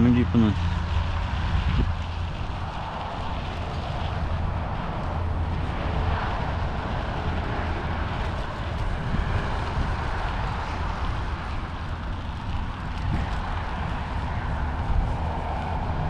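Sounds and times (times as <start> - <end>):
bicycle tyres rolling on road: 0.0 - 16.0
wind buffeting microphone: 0.0 - 16.0.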